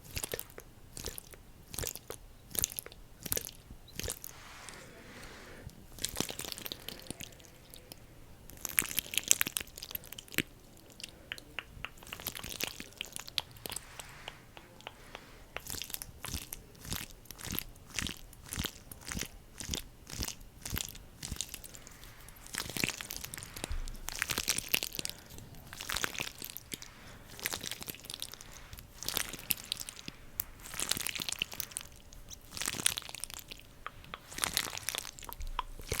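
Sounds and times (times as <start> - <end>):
sticky crackling clicks: 6.0 - 36.0.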